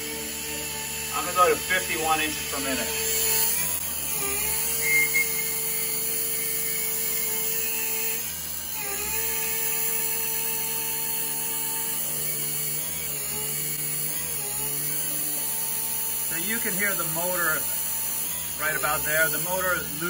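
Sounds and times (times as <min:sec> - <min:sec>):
mill spindle whining: 0:00.0 - 0:20.0.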